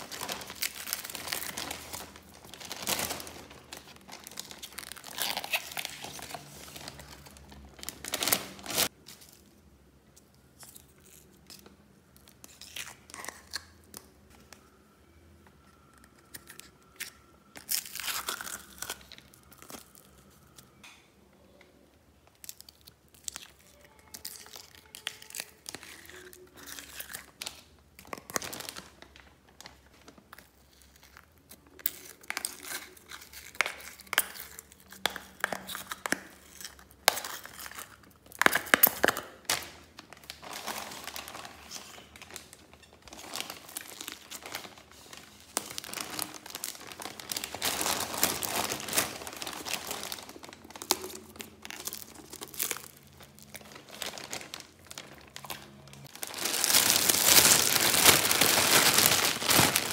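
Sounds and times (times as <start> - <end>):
plastic crinkling: 0.0 - 14.6, 22.2 - 59.9.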